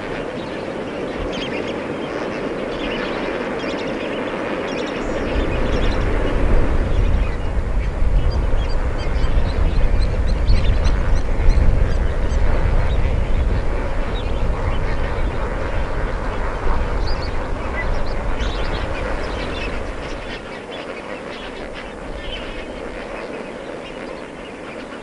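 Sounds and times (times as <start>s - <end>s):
flock of flamingos calling: 0.0s - 25.0s.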